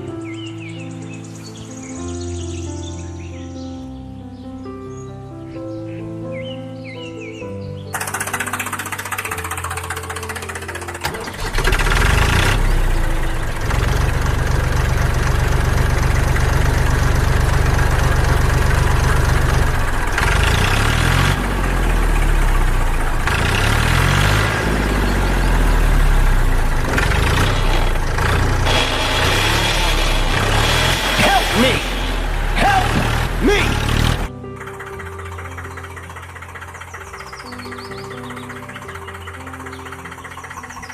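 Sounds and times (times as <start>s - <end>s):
tractor engine knocking: 7.9s - 40.9s.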